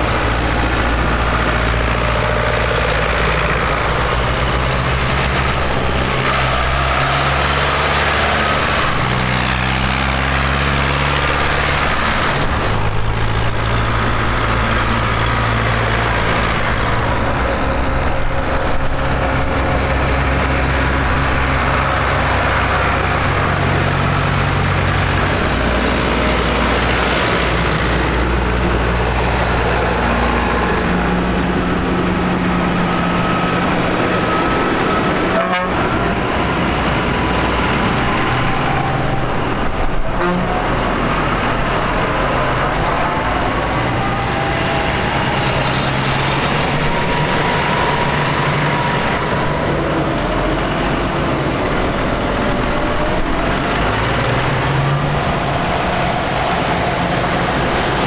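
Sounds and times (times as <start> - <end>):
tractor engines rumbling: 0.0 - 58.0.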